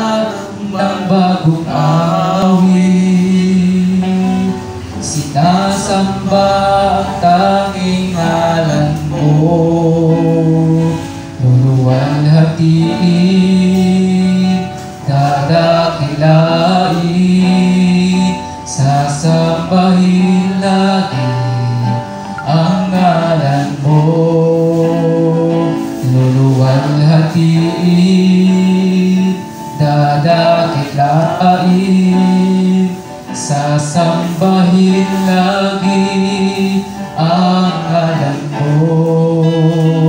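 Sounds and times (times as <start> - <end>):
guitar accompaniment: 0.0 - 40.0
man singing into microphone: 0.0 - 40.0.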